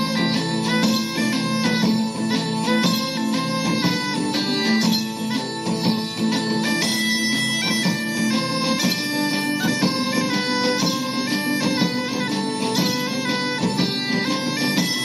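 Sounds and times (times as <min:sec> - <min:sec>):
wind instrument melody: 0:00.0 - 0:15.0.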